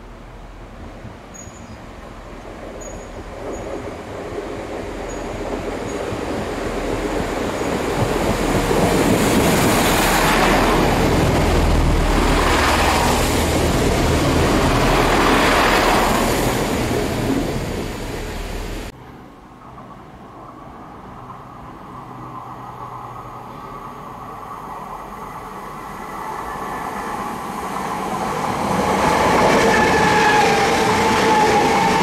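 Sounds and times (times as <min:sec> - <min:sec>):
train passing with rumble: 0:00.0 - 0:32.0.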